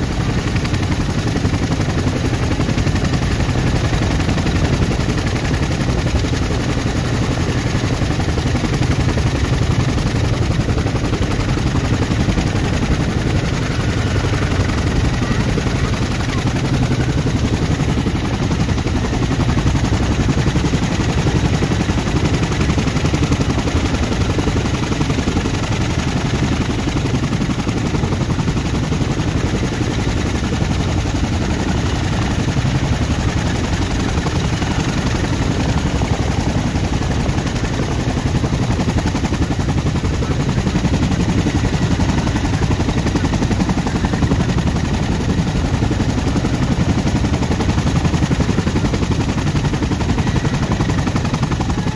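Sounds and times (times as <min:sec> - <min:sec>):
helicopter rotor blades chopping: 0:00.0 - 0:51.9
turbine engine noise: 0:00.0 - 0:51.9.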